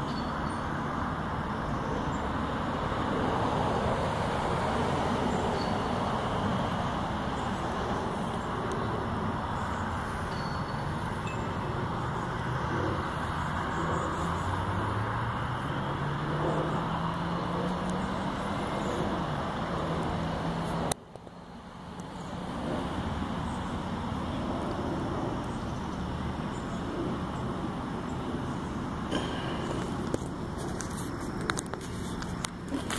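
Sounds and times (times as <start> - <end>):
background traffic noise: 0.0 - 32.9
vehicle engine hum rising in pitch: 0.0 - 32.9.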